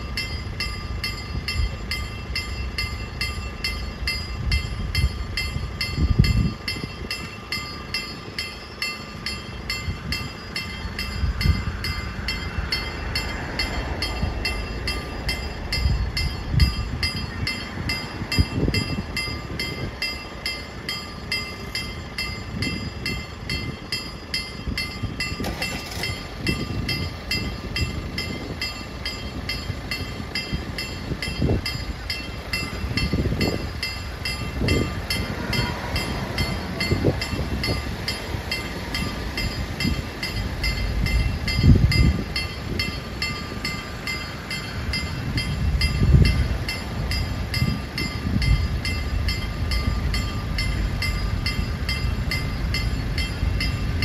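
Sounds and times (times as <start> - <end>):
level crossing warning bell: 0.0 - 54.0.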